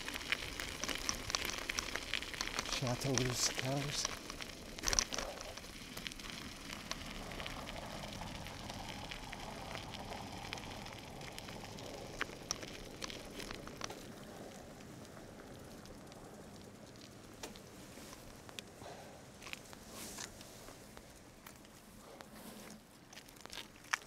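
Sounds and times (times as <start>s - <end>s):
bike tyres crunching on gravel: 0.0s - 24.0s.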